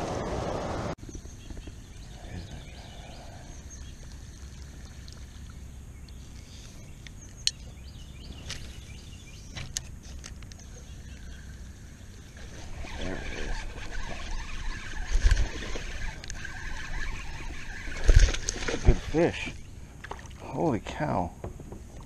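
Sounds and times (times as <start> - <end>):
faint bird calls: 1.1 - 20.5.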